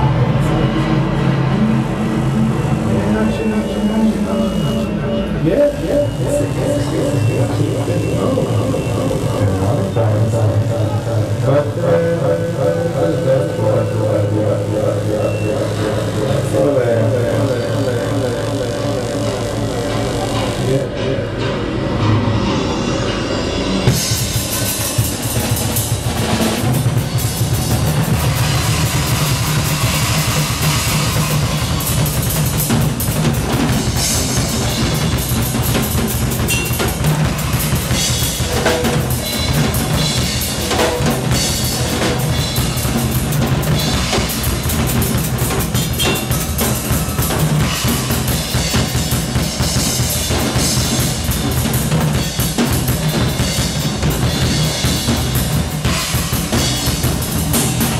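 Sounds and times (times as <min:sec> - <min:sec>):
steady low bass sound: 0:00.0 - 0:57.9
drum kit playing groove: 0:01.3 - 0:11.8, 0:14.6 - 0:21.0, 0:21.9 - 0:57.9.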